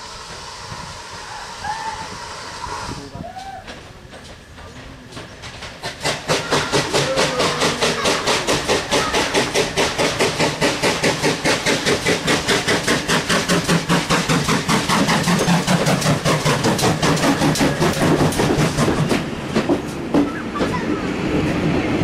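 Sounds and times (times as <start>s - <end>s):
rumble of train and coaches: 0.0s - 22.0s
steam locomotive exhaust beats: 0.0s - 22.0s.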